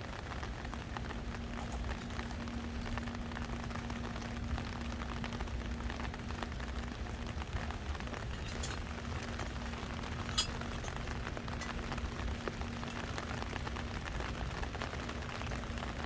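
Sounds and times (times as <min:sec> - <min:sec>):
heavy rain falling: 0:00.0 - 0:16.0
low hum: 0:00.0 - 0:16.0.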